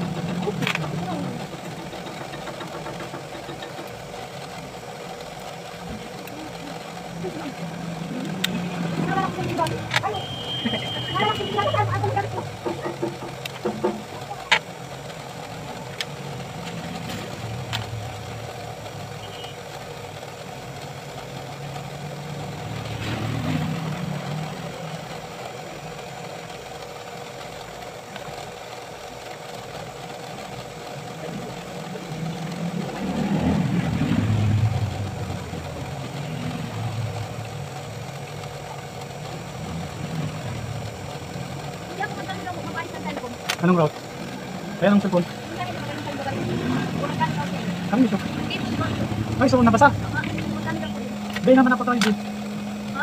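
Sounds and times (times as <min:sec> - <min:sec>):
vehicle engine low rumble: 0:00.0 - 0:53.0.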